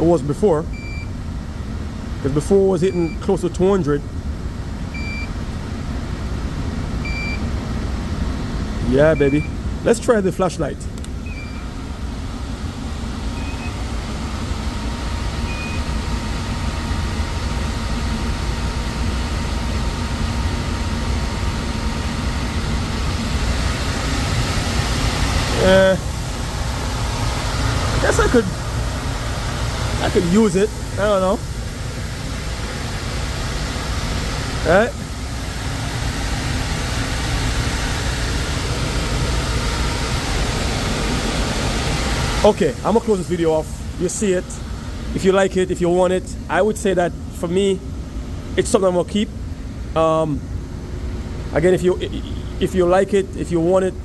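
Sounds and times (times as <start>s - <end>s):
furnace low rumble: 0.0s - 54.0s.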